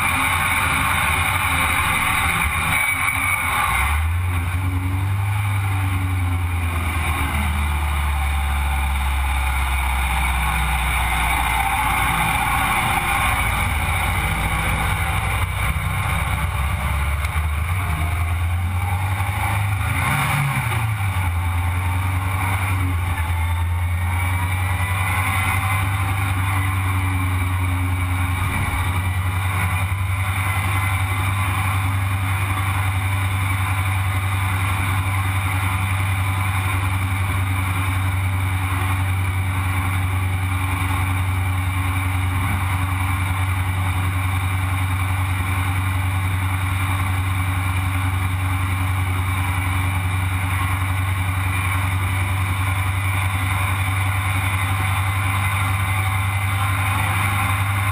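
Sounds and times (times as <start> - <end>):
off-road vehicle engine running: 0.0 - 57.9.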